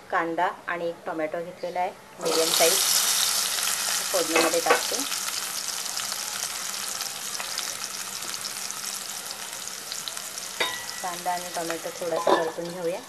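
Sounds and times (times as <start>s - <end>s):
vegetables sizzling in hot oil: 2.2s - 13.0s.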